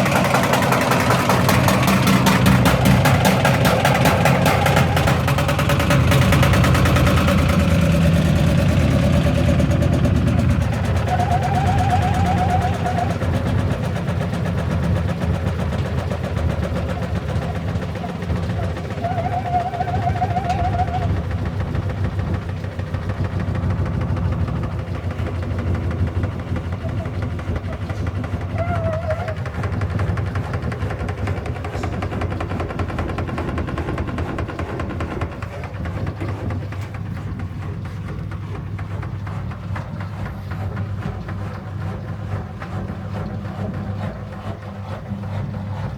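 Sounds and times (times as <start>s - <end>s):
washing machine banging: 0.0s - 41.5s.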